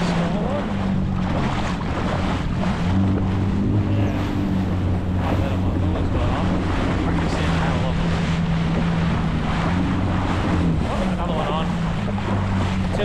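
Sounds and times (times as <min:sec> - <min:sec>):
jet ski engine running: 0:00.0 - 0:13.0
water washing against hull: 0:00.0 - 0:13.0
wind buffeting microphone: 0:00.0 - 0:13.0.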